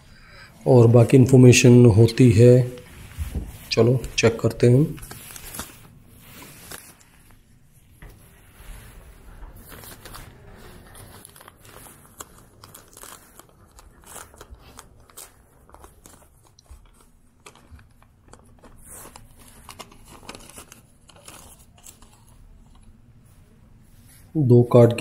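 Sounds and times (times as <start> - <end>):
paper crinkling and rustling: 2.3 - 24.2.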